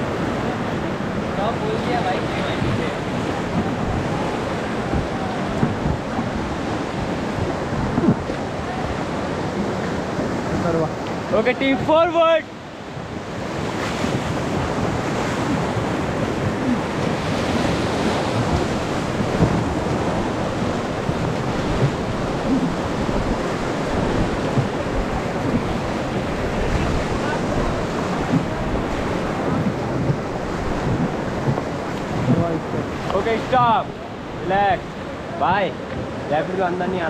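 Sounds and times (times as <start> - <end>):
wind buffeting microphone: 0.0 - 12.0, 12.8 - 37.0
whitewater rapids rushing: 0.0 - 37.0.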